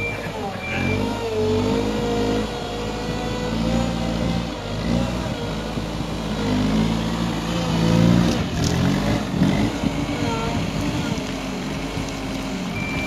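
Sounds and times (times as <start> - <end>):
diesel engine revving under load: 0.0 - 13.0.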